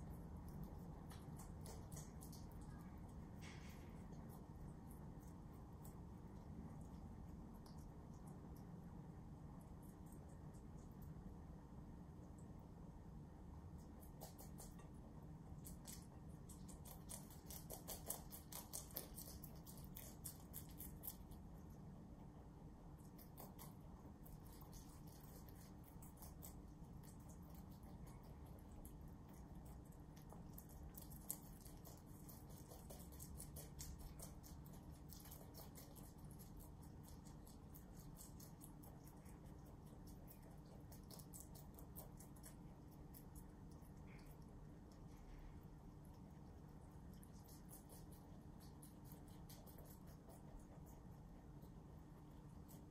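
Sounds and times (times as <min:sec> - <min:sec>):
rabbits crunching greens: 0:00.0 - 0:52.9.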